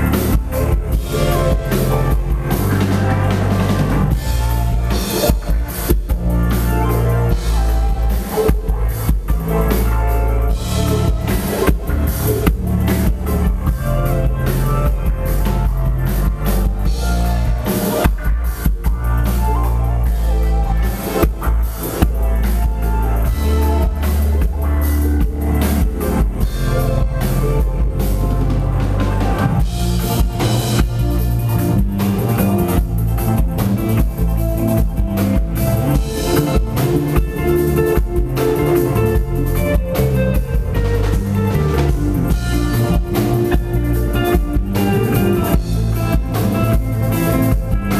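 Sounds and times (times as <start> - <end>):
drum kit beat: 0.0 - 47.9
live band playing: 0.0 - 47.9.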